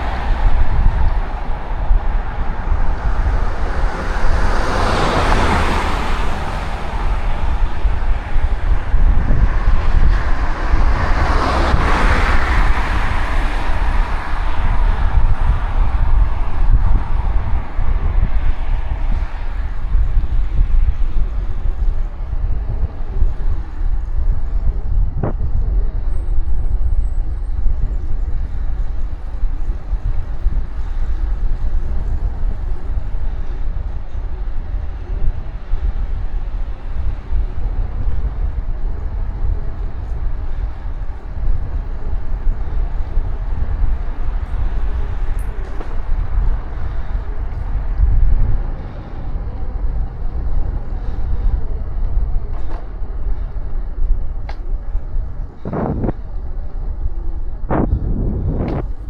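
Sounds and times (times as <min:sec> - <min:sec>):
bicycle road noise: 0:00.0 - 0:59.0
wind buffeting microphone: 0:00.0 - 0:59.0.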